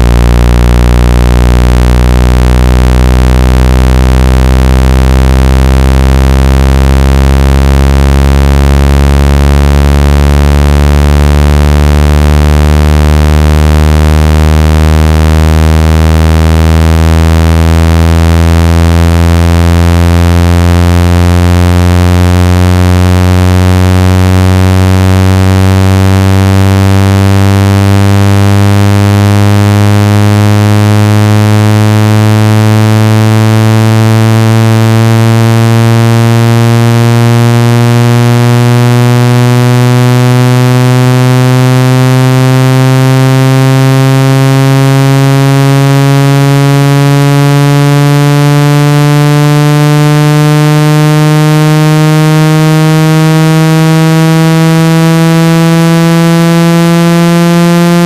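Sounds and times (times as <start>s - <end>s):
rising synthetic buzzing tone: 0.0s - 58.0s.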